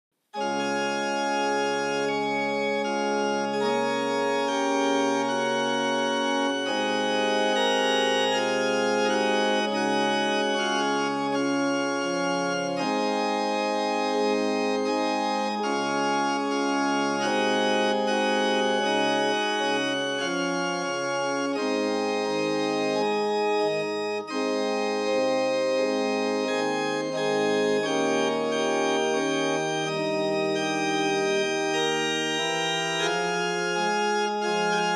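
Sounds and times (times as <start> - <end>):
organ music: 0.4 - 34.9.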